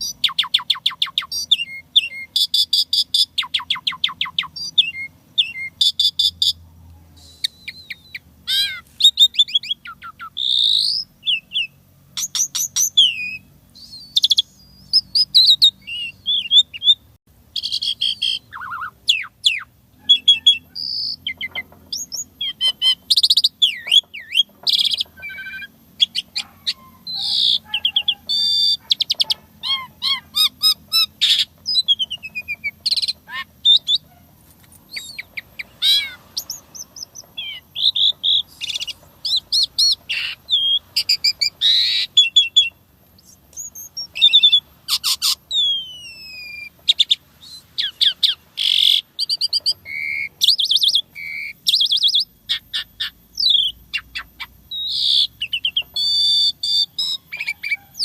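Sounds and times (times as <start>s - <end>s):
bird singing varied song: 0.0s - 58.0s
harsh bird calls: 0.0s - 58.0s.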